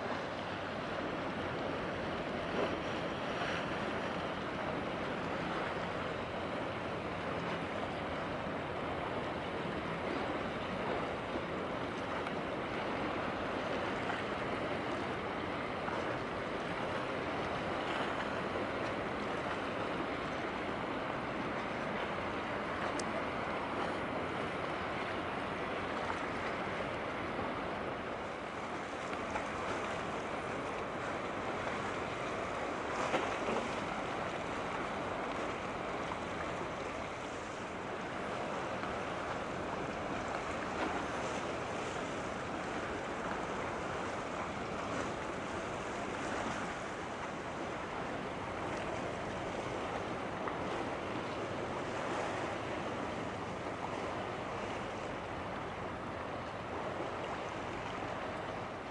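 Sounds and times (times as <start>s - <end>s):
sea waves rushing: 0.0s - 58.9s.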